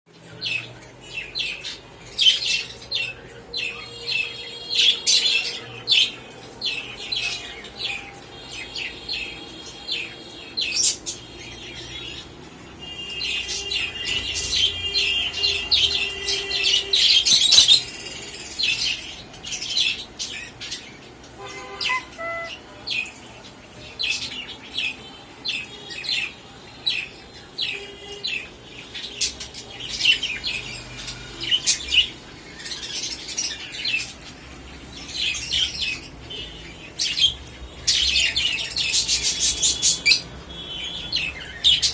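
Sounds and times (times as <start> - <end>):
many birds chirping: 0.1 - 41.9.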